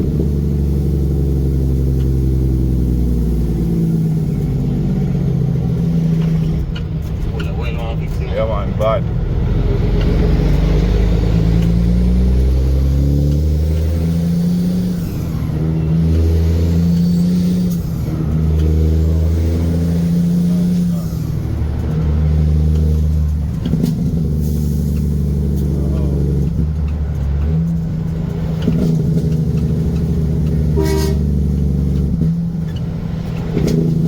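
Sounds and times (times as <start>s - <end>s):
truck engine accelerating: 0.0s - 34.0s.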